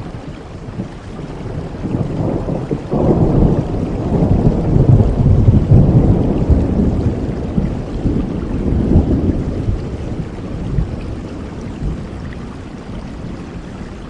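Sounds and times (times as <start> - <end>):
rolling thunder rumble: 0.0 - 13.8
steady rain: 0.0 - 14.0.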